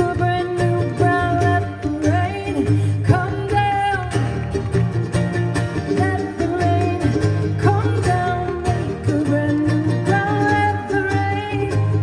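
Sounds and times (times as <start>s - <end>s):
acoustic guitar strumming: 0.0s - 12.0s
mandolin melody: 0.0s - 12.0s.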